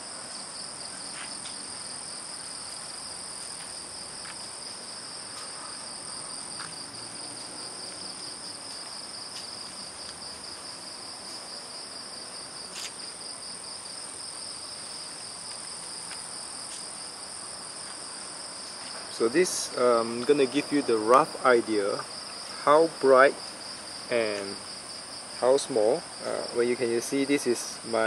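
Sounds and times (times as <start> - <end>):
night insects chirring: 0.0 - 28.0.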